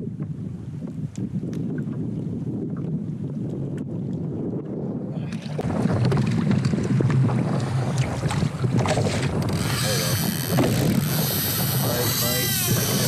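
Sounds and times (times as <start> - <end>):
wind buffeting microphone: 0.0 - 13.0
water slapping hull: 1.1 - 13.0.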